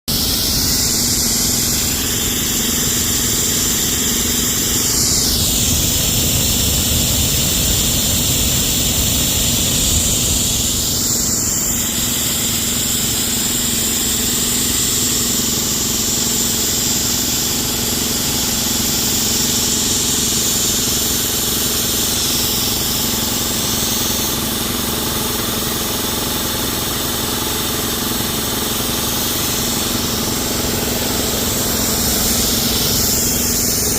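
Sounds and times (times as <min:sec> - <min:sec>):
machine engine humming: 0:00.1 - 0:33.9
snowmaking gun hissing: 0:00.1 - 0:33.9.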